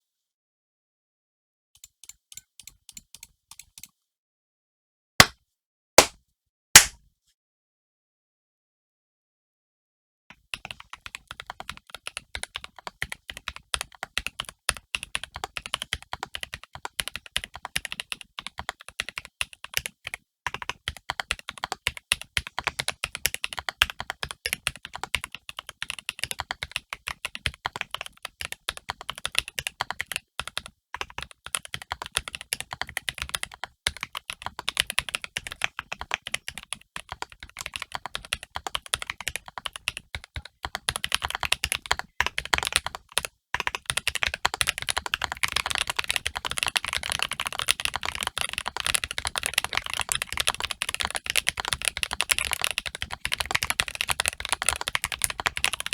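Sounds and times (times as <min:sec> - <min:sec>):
mechanical keyboard typing: 0:01.8 - 0:03.9, 0:10.6 - 0:55.9.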